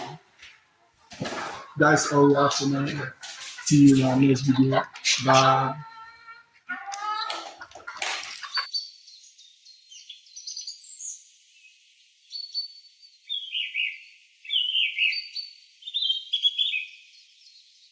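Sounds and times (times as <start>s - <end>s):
small birds chirping and whistling: 1.1s - 17.9s.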